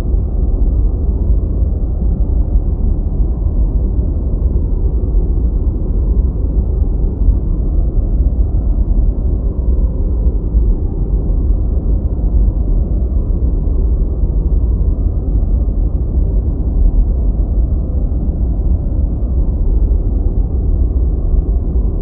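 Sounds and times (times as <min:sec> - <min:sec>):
low rumbling white noise: 0:00.0 - 0:22.0.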